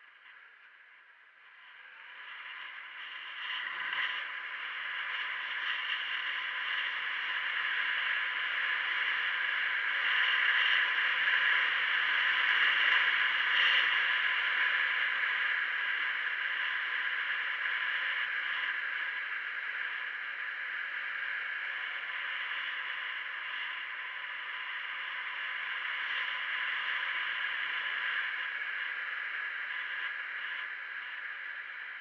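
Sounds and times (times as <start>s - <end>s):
faint high whine: 0.0s - 32.0s
road and wind noise: 0.0s - 32.0s.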